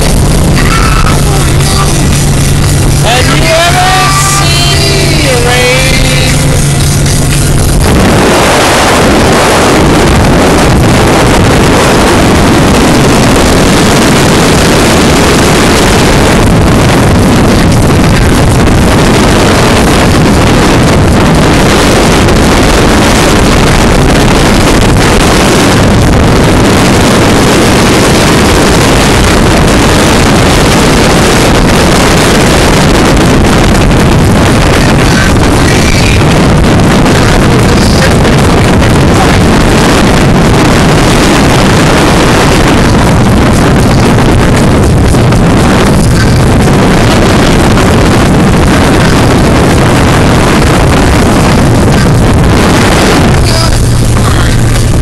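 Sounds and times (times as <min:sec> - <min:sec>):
motorboat running: 0:00.0 - 0:55.0
wind blasting microphone: 0:00.0 - 0:55.0.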